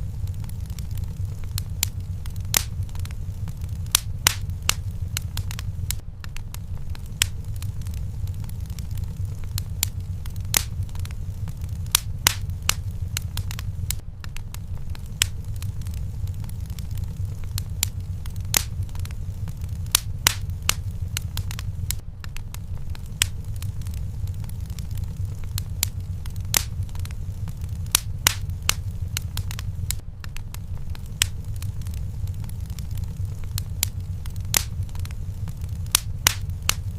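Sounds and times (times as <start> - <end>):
fire crackling and popping: 0.0 - 36.9
low rumble of flames: 0.0 - 36.9.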